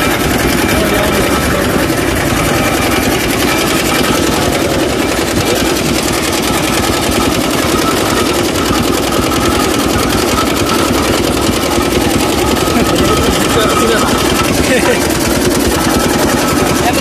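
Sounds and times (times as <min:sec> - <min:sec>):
crushing machine clattering: 0:00.0 - 0:17.0.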